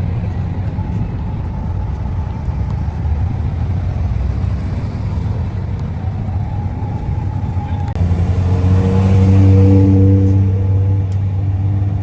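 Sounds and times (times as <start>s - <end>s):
motor vehicle low rumble: 0.0s - 12.0s.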